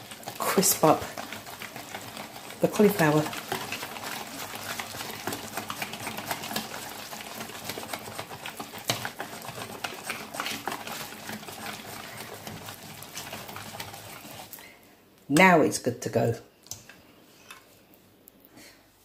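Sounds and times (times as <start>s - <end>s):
utensil stirring batter in bowl: 0.0s - 15.6s.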